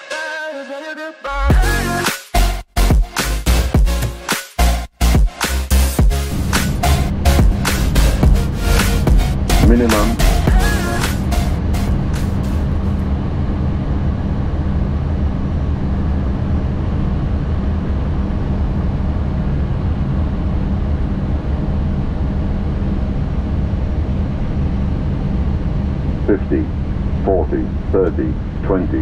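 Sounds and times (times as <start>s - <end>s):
aircraft engine drone: 5.7s - 29.0s
airflow in cockpit: 5.7s - 29.0s.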